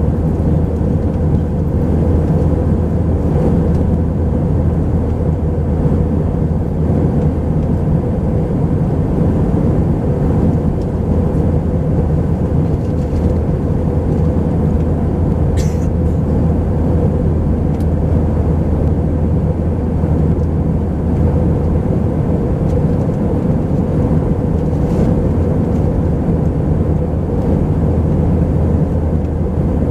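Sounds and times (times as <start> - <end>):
airplane cabin engine hum: 0.0 - 29.9.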